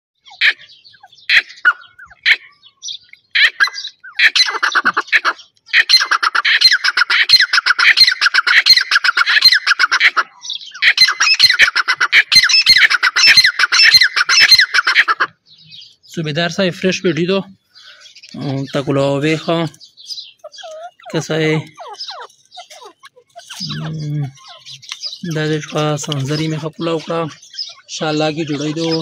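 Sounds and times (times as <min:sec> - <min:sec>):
francolins calling: 0:00.2 - 0:29.0.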